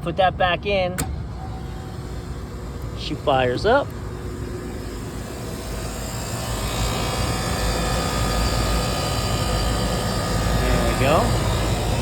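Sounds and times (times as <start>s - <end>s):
compressor low hum: 0.0s - 12.0s.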